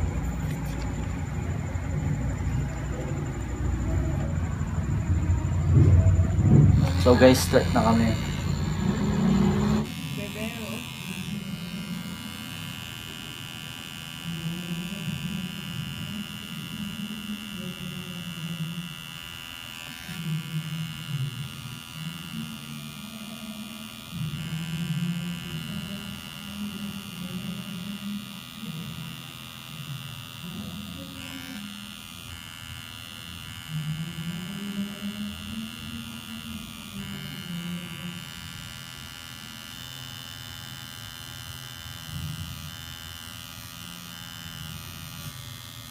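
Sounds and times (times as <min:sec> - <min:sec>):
tattoo machine buzzing: 0:00.0 - 0:45.9.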